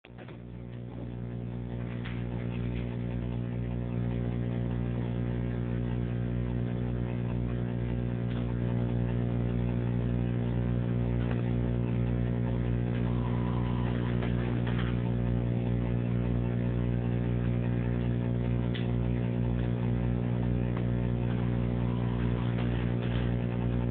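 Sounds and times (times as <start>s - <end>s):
low hum with overtones: 0.0s - 23.9s.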